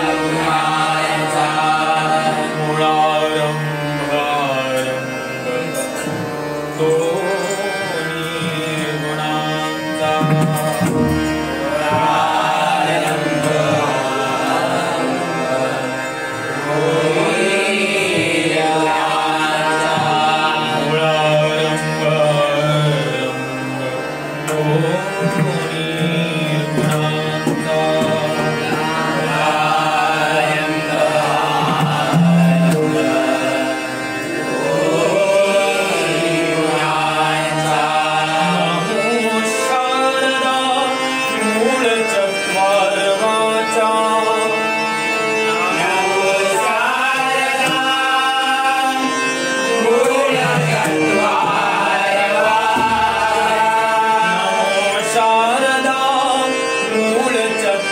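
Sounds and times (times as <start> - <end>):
instrumental accompaniment: 0.0 - 57.9
person singing devotional song: 0.0 - 57.9.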